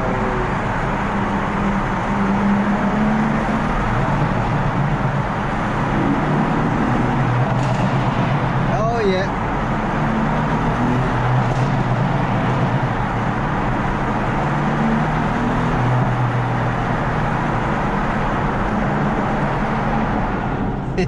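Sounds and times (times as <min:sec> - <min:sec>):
car engine and exhaust: 0:00.0 - 0:21.0
road and wind noise: 0:00.0 - 0:21.0.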